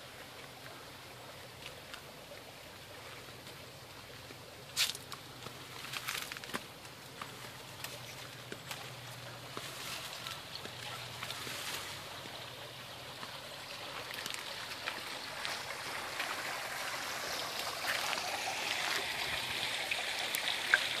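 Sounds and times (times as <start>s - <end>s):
water splashing from fountain: 0.0s - 21.0s.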